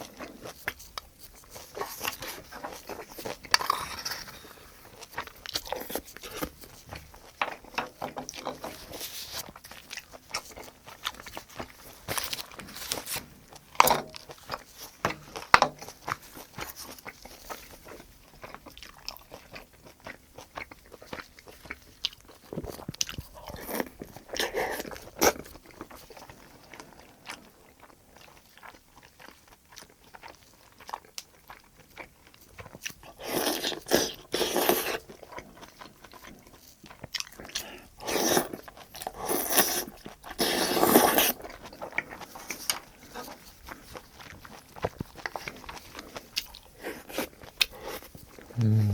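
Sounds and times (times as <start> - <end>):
person chewing: 0.0 - 48.9.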